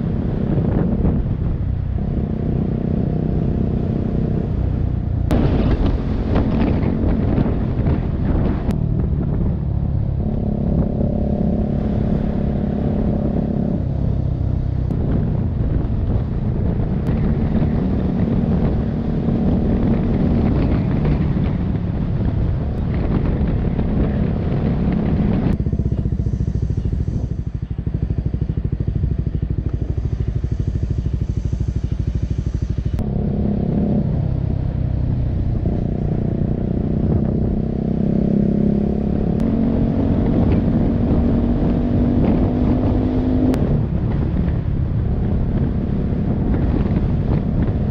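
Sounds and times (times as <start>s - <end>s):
motorcycle engine running: 0.0s - 47.9s
road and wind noise: 0.0s - 47.9s.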